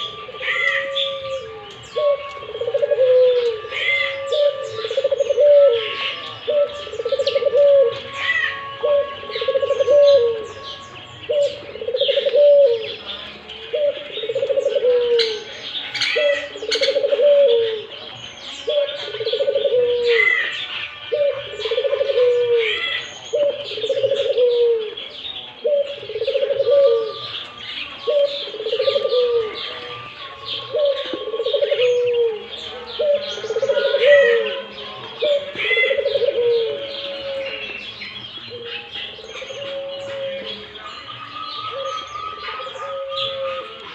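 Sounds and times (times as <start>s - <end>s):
dove cooing: 0.0s - 43.9s
small birds chirping: 0.0s - 43.9s.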